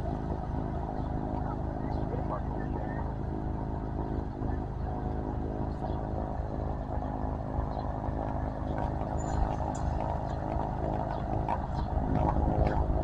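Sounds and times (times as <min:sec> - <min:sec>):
plane engine idling: 0:00.0 - 0:13.0.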